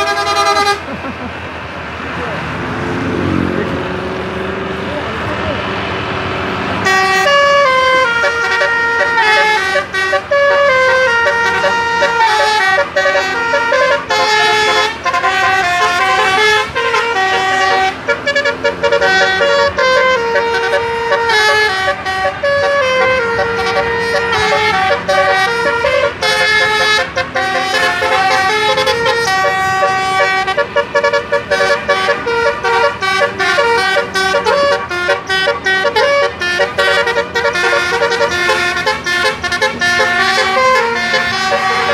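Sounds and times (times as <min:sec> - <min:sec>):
musical bus air horn: 0:00.0 - 0:01.0, 0:06.8 - 0:41.9.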